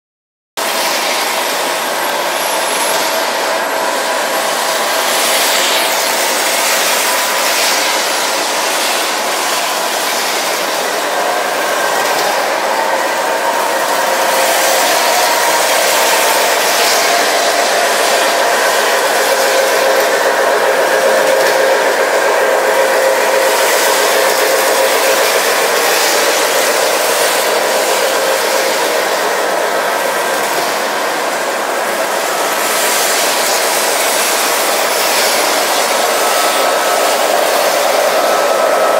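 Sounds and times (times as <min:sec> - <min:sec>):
model train whirring on track: 0:00.6 - 0:38.9.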